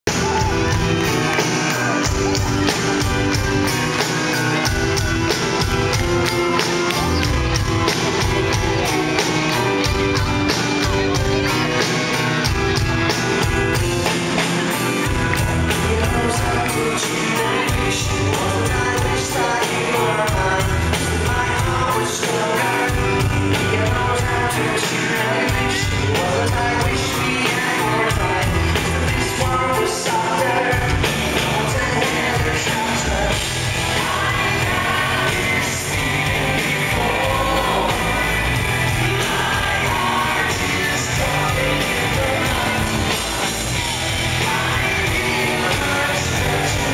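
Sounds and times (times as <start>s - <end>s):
drums: 0.0s - 46.9s
electric guitar: 0.1s - 46.9s
man singing: 0.1s - 46.9s.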